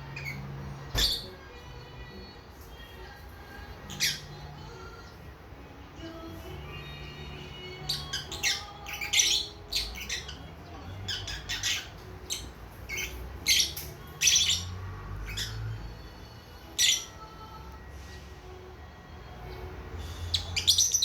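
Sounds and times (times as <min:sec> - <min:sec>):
lovebirds chirping and squawking: 0:00.0 - 0:21.0.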